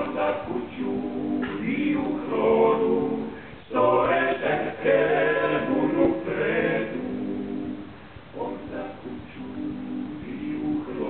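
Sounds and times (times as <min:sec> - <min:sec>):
male choir singing a cappella: 0:00.0 - 0:11.0.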